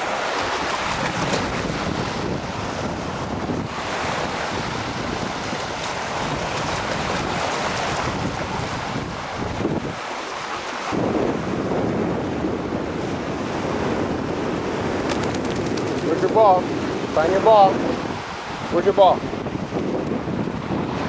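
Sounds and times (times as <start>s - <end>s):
lake waves washing in: 0.0s - 21.0s
wind rumbling on microphone: 0.0s - 21.0s.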